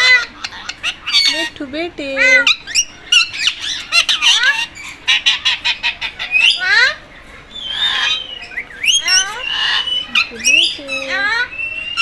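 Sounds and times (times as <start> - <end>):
parakeets calling and chattering: 0.0 - 12.0.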